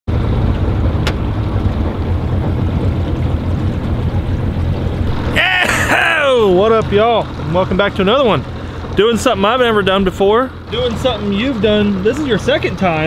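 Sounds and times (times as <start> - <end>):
boat engine droning: 0.1 - 13.0.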